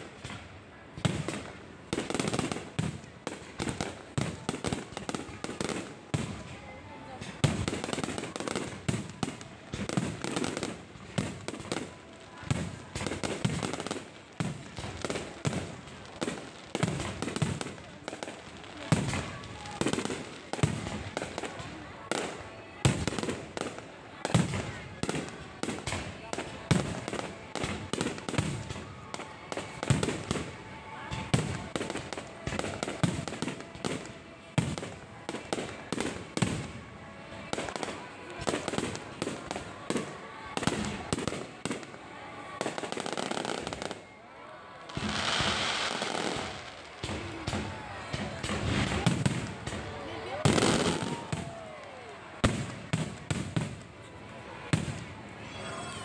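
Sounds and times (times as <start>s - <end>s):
fireworks bangs with crackling: 0.0s - 44.0s, 44.9s - 55.2s.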